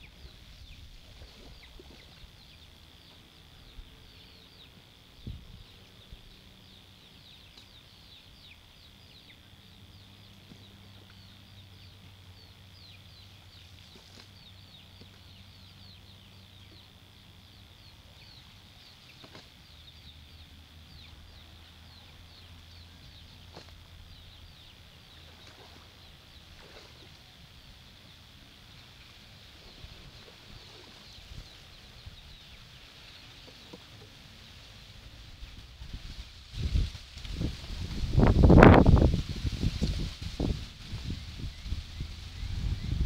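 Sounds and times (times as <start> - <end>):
low hum: 0.0 - 43.0
steady high whine: 0.0 - 43.0.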